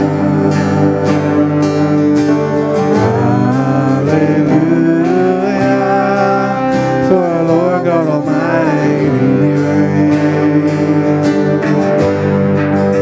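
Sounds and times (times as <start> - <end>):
guitars playing: 0.0 - 13.0
singers holding long notes: 0.0 - 13.0.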